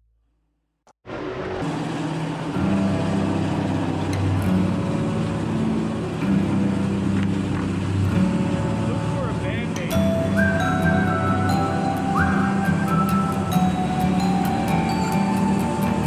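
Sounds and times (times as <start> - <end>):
vehicle engine running: 1.1 - 16.0.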